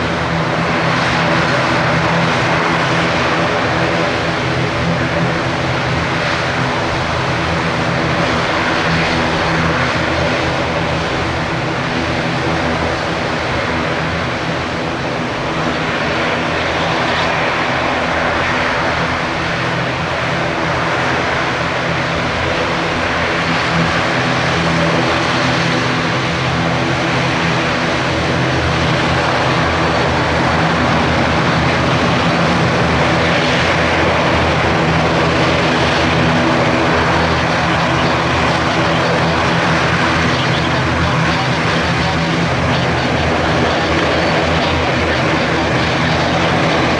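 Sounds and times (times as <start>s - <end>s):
turboprop engines droning: 0.0s - 46.9s.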